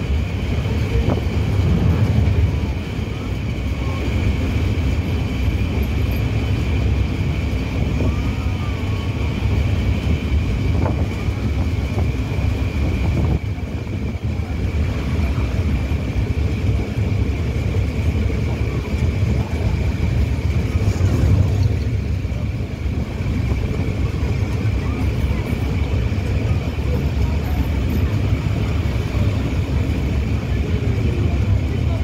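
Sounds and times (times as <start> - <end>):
wind buffeting microphone: 0.0 - 5.8, 6.4 - 32.0
constant high whine: 0.0 - 32.0
train wheels rumbling: 0.0 - 32.0.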